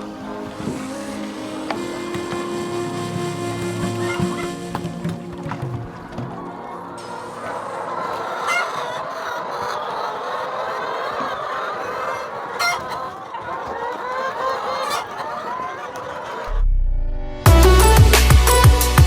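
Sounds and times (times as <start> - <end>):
chickens clucking: 0.0 - 16.6.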